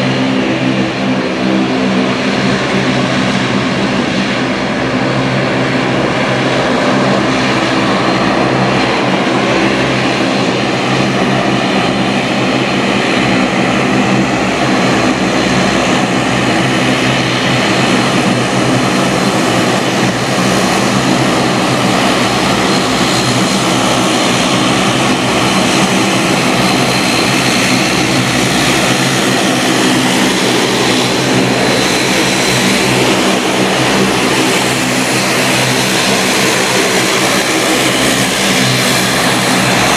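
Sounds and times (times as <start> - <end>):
high engine whine: 0.0 - 39.9
propeller engine drone: 0.0 - 39.9.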